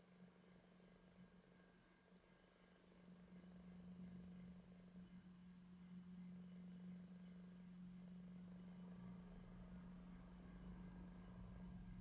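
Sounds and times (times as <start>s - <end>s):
pocket watch ticking: 0.0s - 12.0s
steady low hum: 0.0s - 12.0s.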